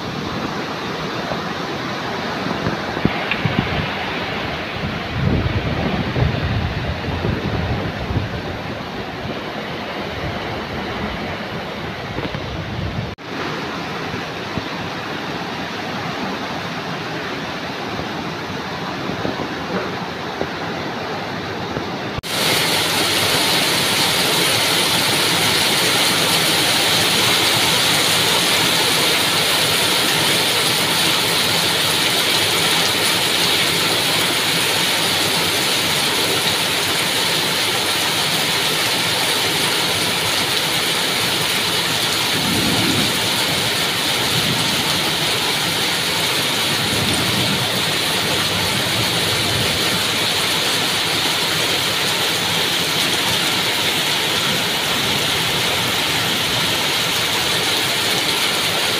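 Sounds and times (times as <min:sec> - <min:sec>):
heavy rain on trees and roofs: 0:00.0 - 0:58.9.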